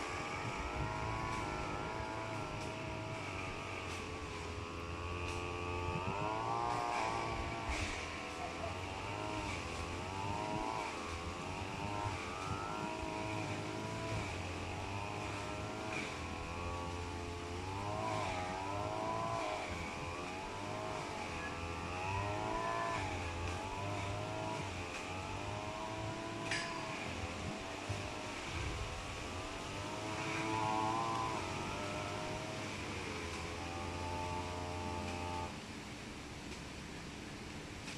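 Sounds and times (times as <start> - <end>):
steady low hum: 0.0 - 37.9
vehicle engines revving: 0.0 - 37.9.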